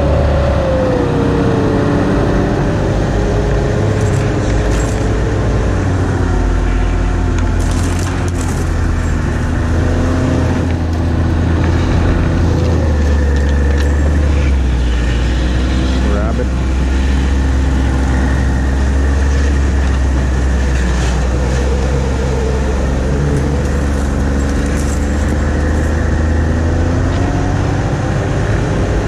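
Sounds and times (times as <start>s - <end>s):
snowmobile engine running: 0.0s - 29.0s.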